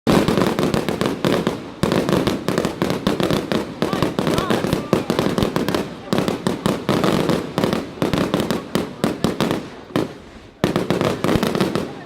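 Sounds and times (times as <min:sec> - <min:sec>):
fireworks bangs and crackles: 0:00.1 - 0:12.0.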